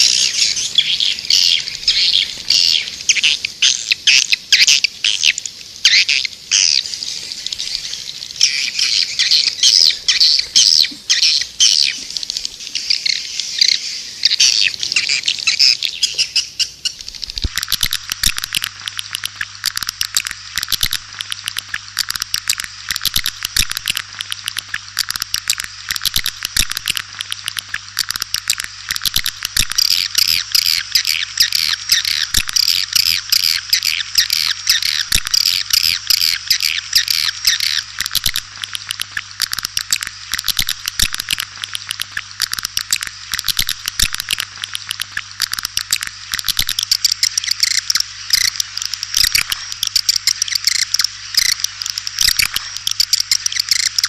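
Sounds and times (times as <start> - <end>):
low steady hum: 0.0 - 54.0
swiftlets twittering: 0.0 - 54.0.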